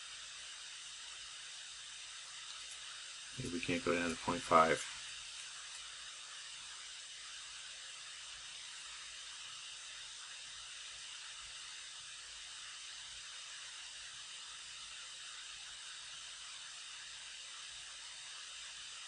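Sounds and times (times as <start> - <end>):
faint background hiss: 0.0 - 19.0.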